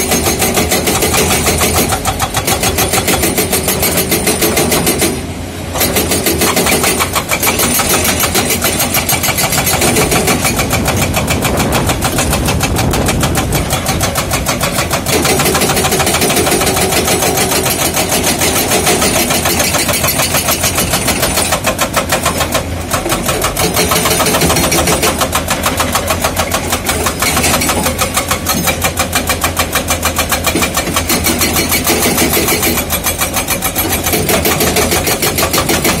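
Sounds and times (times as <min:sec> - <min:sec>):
excavator diesel engine: 0:00.0 - 0:36.0
hydraulic breaker hammering rock: 0:00.0 - 0:36.0.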